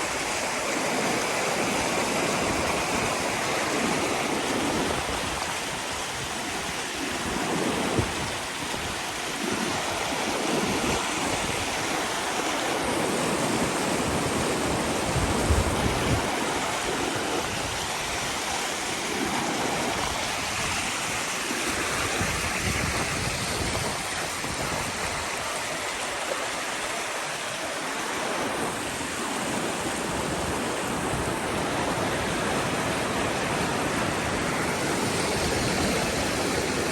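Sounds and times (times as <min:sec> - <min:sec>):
creek water rushing: 0:00.0 - 0:36.9.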